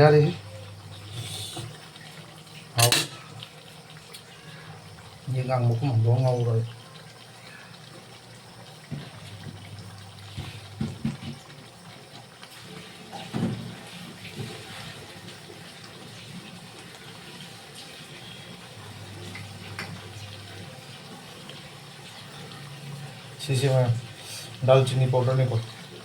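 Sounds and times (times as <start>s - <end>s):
curry simmering in a pot: 0.0s - 26.0s.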